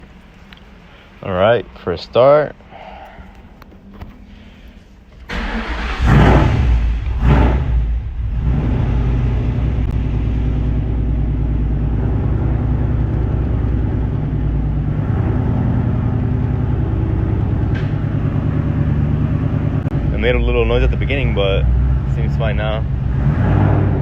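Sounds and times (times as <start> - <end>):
car engine idling: 3.2 - 24.0.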